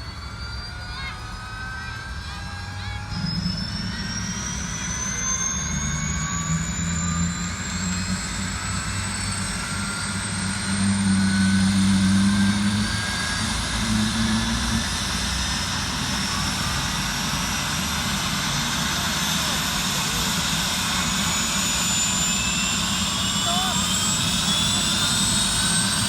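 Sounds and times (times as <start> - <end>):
helicopter turbine whine: 0.0 - 26.0
low engine and rotor hum: 0.0 - 26.0.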